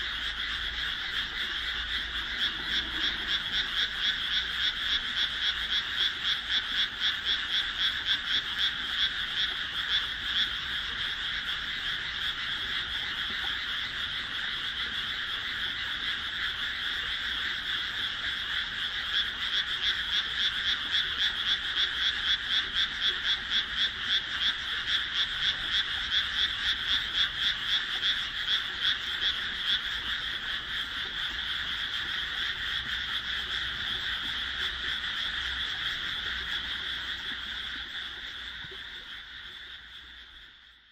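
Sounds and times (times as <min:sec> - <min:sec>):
frogs calling in pulsed trills: 0:00.0 - 0:40.9.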